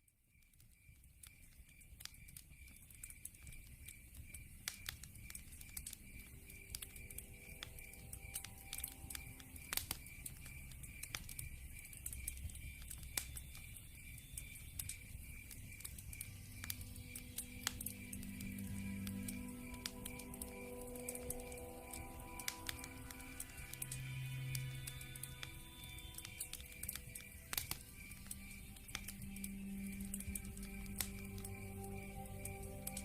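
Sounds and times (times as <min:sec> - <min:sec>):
wood fire crackling and popping: 0:00.1 - 0:33.0
night insects chirping: 0:00.3 - 0:33.0.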